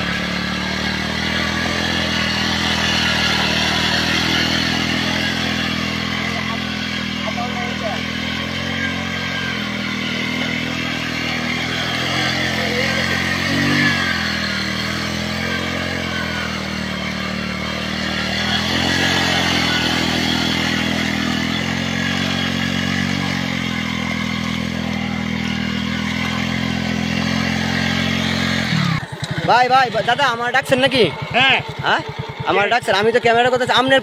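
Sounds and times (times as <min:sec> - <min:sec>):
motorcycle engine under load: 0:00.0 - 0:34.0.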